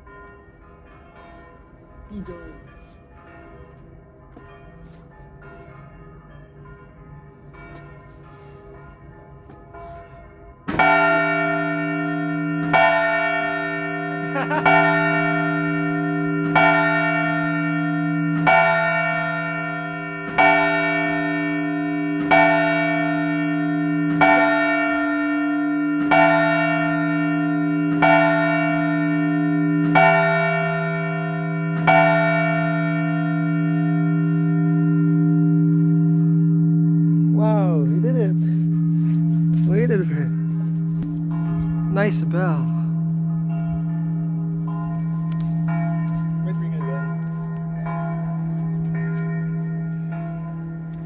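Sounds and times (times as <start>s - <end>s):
large bell striking: 0.0s - 51.0s.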